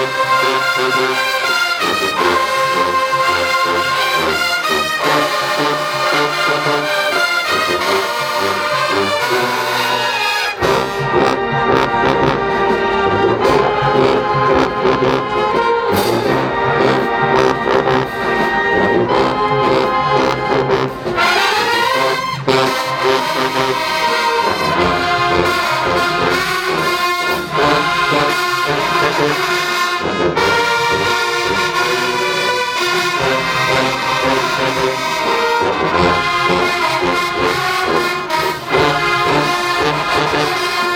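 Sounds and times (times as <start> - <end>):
marching band playing: 0.0 - 40.9
rising brass sweep: 0.0 - 40.9
trombones and trumpets: 0.0 - 40.9.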